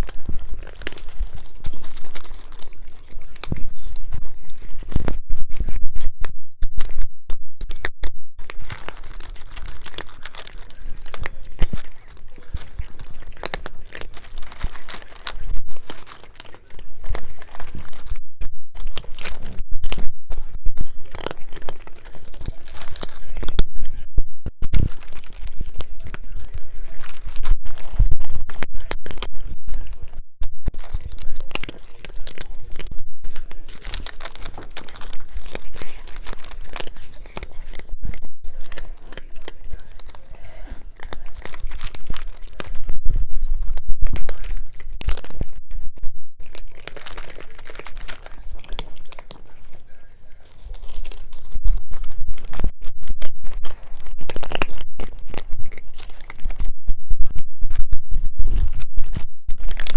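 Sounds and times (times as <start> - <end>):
cats crunching and chewing: 0.0 - 7.0, 7.6 - 59.9.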